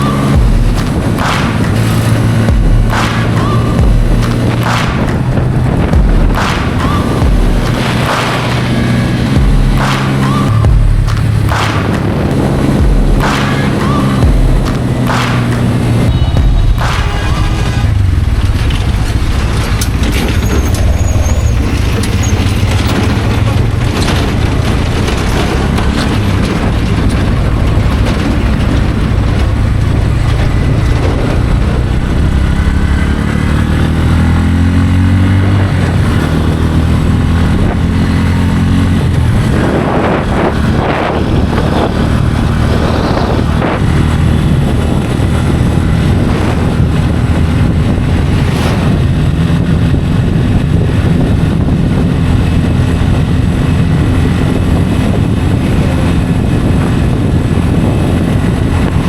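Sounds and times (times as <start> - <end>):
motorcycle engine accelerating: 0.0 - 59.0
road and wind noise: 0.0 - 59.0.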